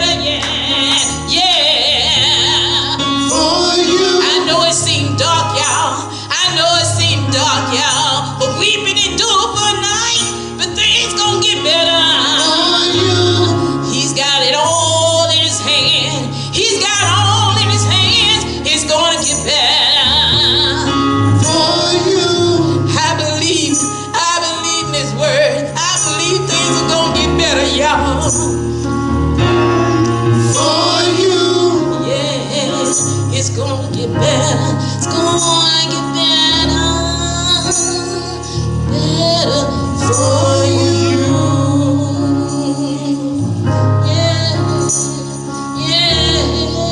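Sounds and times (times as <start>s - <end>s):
gospel singing with band: 0.0s - 46.9s.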